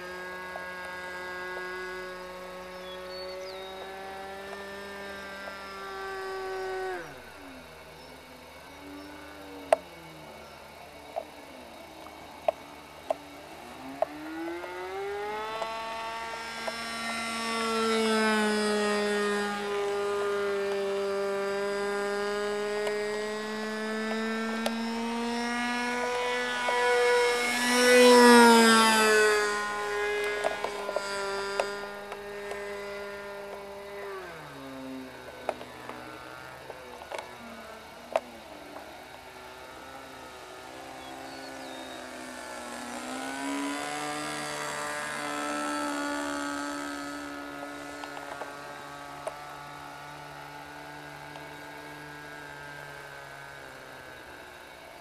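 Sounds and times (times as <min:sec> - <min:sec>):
model airplane engine buzzing: 0:00.0 - 0:55.0.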